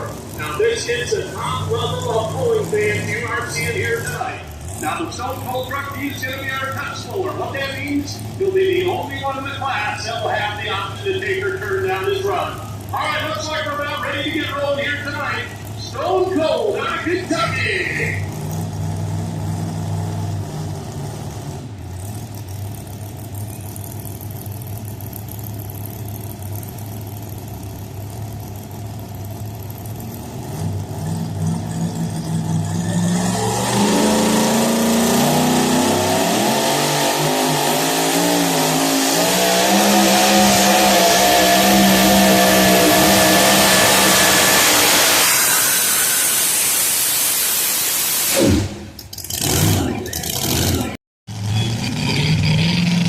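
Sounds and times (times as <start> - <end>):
truck engine idling and revving: 0.0 - 53.0.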